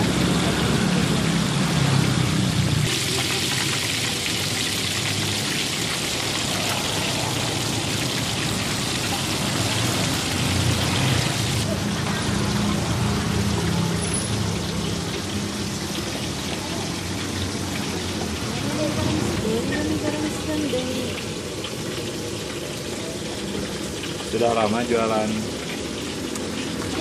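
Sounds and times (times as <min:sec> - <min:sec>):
hot oil sizzling: 0:00.0 - 0:27.0.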